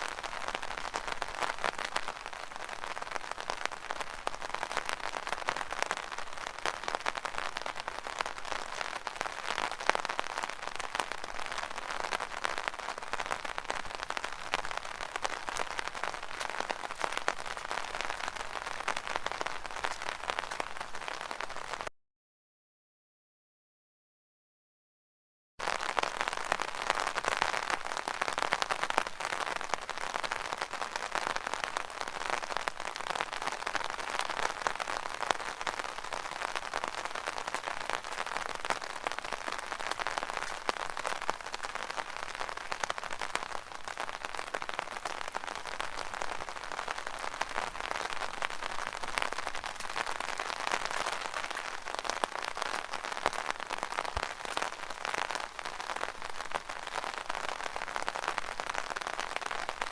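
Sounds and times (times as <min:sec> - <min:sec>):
rain pattering on an umbrella: 0:00.0 - 0:21.9, 0:25.6 - 0:59.9.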